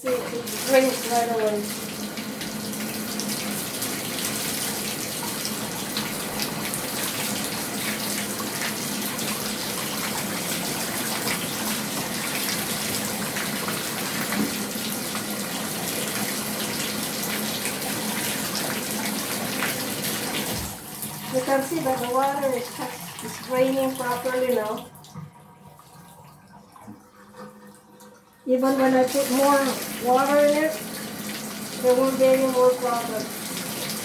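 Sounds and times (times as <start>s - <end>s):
water pouring from faucet into tub: 0.0s - 34.0s.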